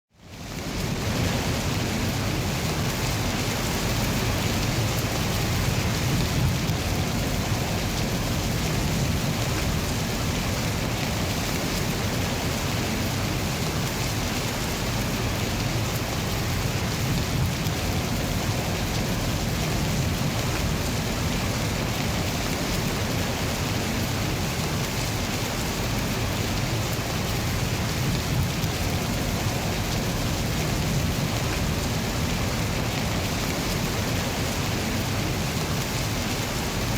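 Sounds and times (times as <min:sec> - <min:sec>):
rain hissing: 0:00.3 - 0:36.9.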